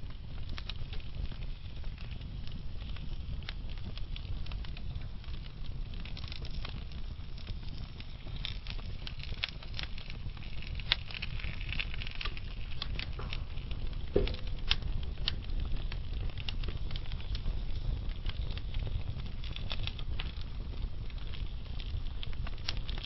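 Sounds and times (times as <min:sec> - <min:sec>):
fire crackles and pops: 0:00.0 - 0:23.0
fire rumbling in fireplace: 0:00.0 - 0:23.0.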